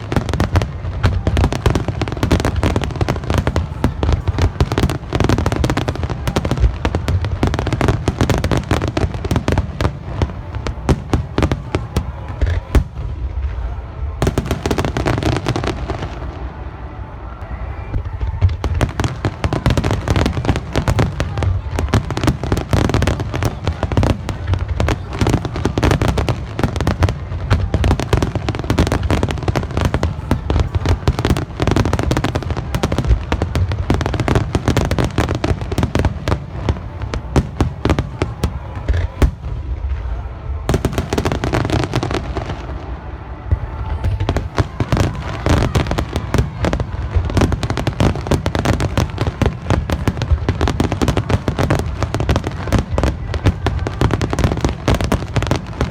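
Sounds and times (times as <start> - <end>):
fireworks booming and crackling: 0.0 - 55.9.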